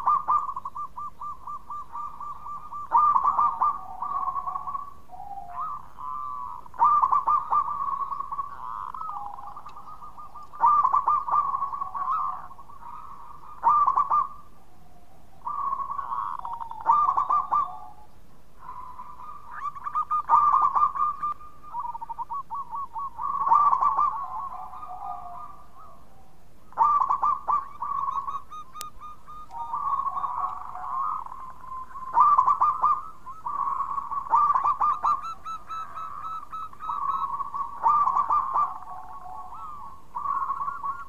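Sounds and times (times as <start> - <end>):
dove cooing: 0.0 - 41.0.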